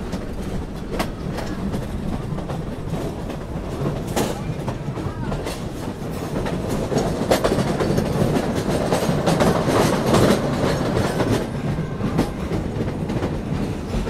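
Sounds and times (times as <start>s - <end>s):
train wheels clattering over rails: 0.0s - 14.0s.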